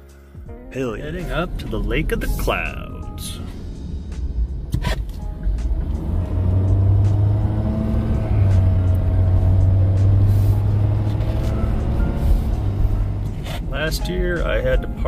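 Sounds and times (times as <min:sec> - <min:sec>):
truck engine droning: 0:00.9 - 0:15.0
road noise: 0:01.1 - 0:15.0.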